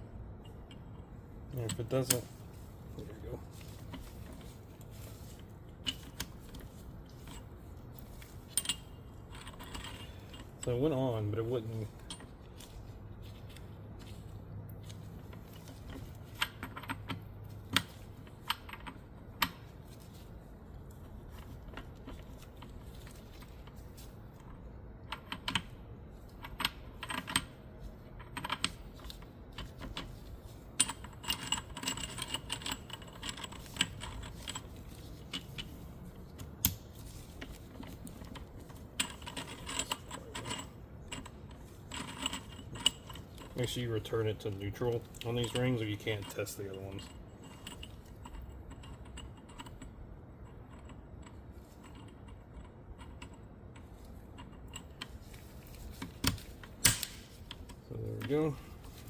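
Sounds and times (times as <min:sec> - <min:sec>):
metal gears clicking and clinking: 0:00.4 - 0:20.1, 0:20.8 - 0:59.0.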